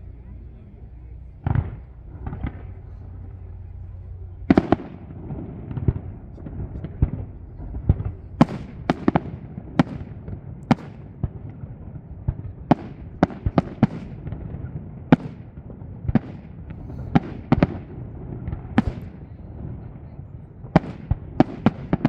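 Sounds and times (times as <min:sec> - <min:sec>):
low background rumble: 0:00.0 - 0:22.0
fireworks bangs: 0:00.9 - 0:22.0.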